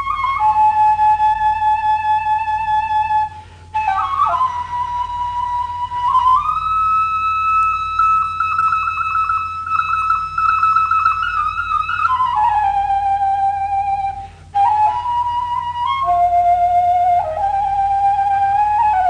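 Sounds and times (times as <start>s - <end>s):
wooden flute melody: 0.0s - 19.0s.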